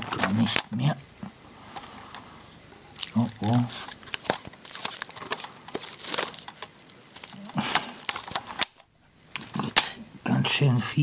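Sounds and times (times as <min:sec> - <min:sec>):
cassette tape crinkling: 0:00.0 - 0:00.9, 0:01.7 - 0:10.0.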